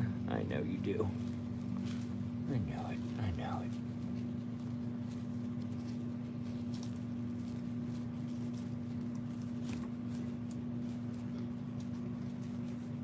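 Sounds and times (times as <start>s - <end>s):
steady low hum: 0.0s - 13.0s
hand stroking fur rustles: 1.0s - 13.0s.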